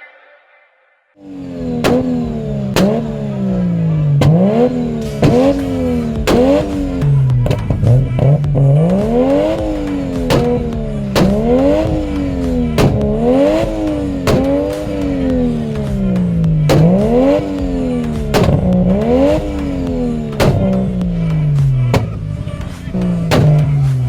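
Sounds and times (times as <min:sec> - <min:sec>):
car engine revving: 0:01.2 - 0:24.0
sharp exhaust cracks: 0:01.2 - 0:24.0.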